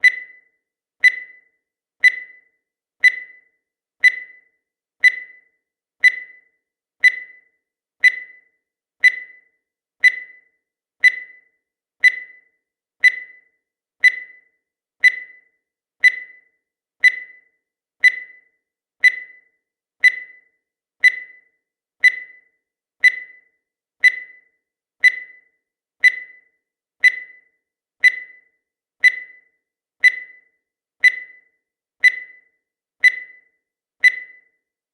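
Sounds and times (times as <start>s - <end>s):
short high timer ticks: 0.0s - 34.6s.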